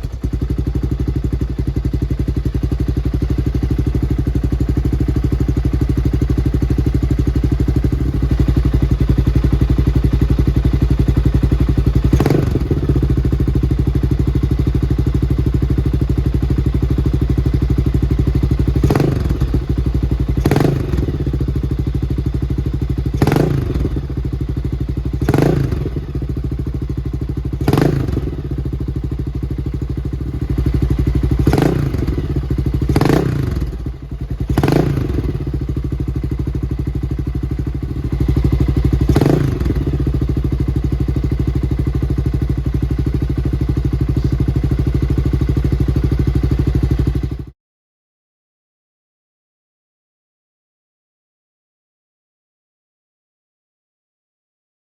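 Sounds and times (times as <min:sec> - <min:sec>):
motorcycle engine idling: 0:00.0 - 0:47.6.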